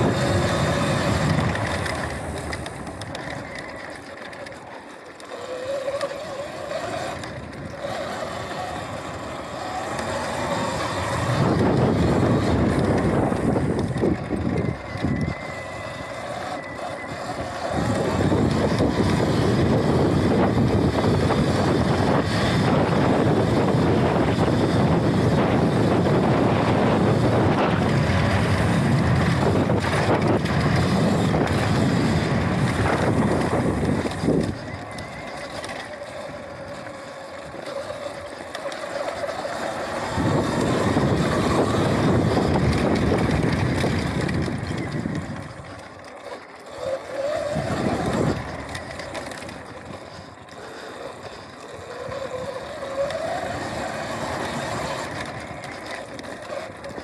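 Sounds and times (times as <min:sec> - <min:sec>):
wind rush on microphone: 0:00.0 - 0:03.7, 0:06.1 - 0:46.1, 0:46.7 - 0:57.0
electric motor whine: 0:00.0 - 0:57.0.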